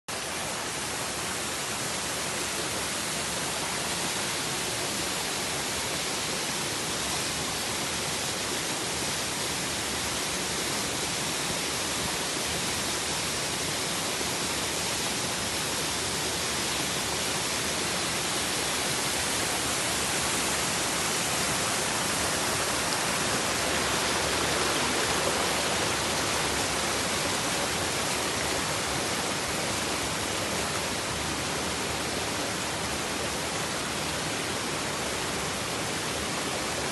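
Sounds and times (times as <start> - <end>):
water rushing over rocks: 0.1 - 36.9.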